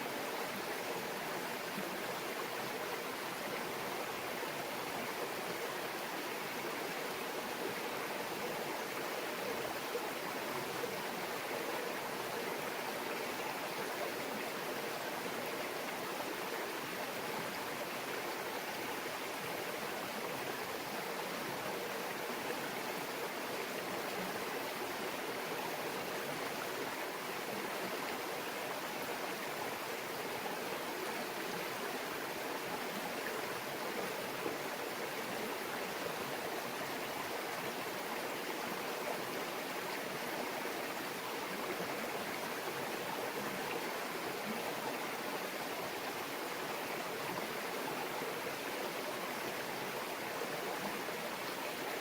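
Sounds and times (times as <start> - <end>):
brook babbling over stones: 0.0 - 52.0.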